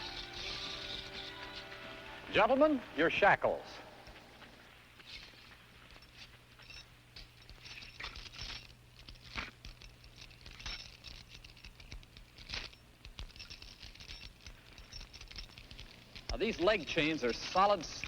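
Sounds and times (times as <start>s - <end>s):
chains and handcuffs clinking: 0.0s - 2.7s, 3.9s - 18.0s.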